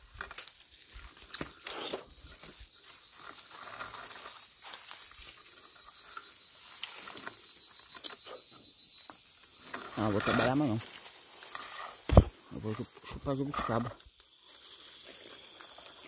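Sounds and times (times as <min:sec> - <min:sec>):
insects buzzing: 0:00.0 - 0:16.0
leaves rustling: 0:00.0 - 0:16.0.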